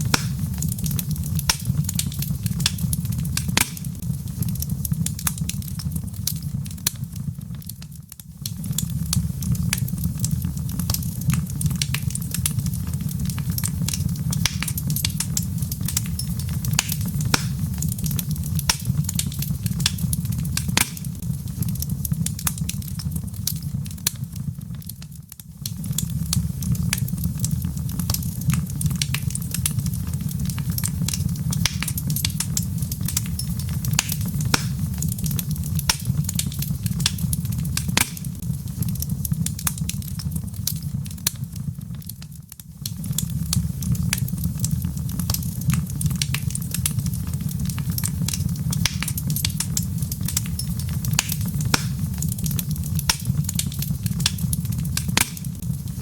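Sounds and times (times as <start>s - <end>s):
log fire crackling: 0.0s - 56.0s
low fire rumble: 0.0s - 56.0s.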